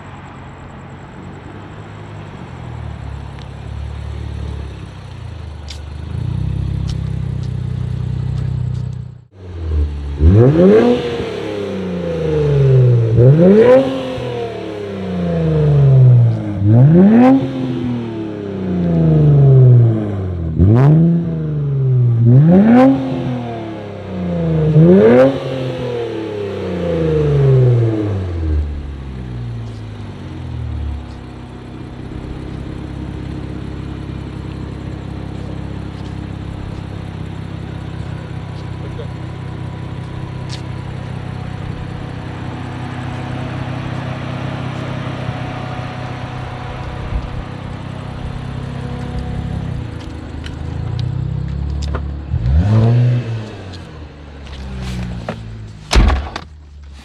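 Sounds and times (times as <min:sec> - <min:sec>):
car engine idling: 0:00.0 - 0:57.0
car engine revving: 0:00.0 - 0:57.0.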